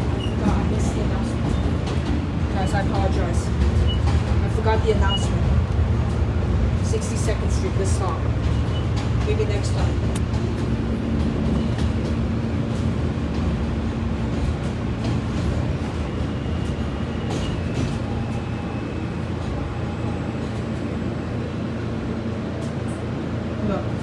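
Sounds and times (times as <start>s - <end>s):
subway car rumble: 0.0s - 24.0s.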